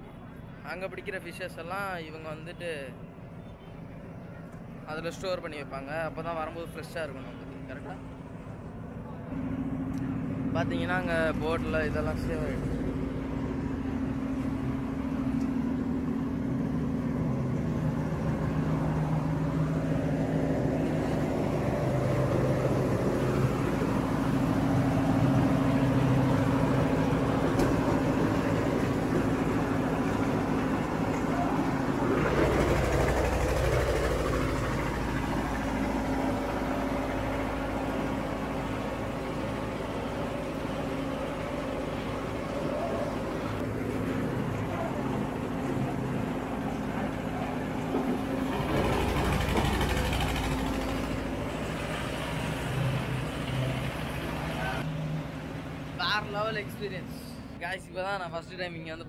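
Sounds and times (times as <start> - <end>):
ice crusher engine drone: 7.0 - 57.5.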